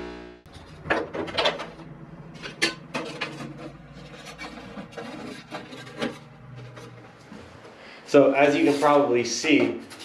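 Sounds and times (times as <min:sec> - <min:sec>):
sheet metal rubbing: 0:00.5 - 0:10.0.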